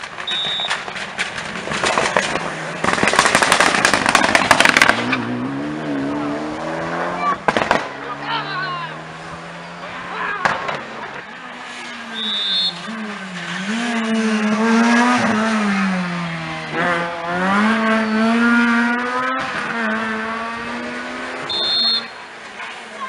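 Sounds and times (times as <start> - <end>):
car engine revving: 1.4 - 23.0.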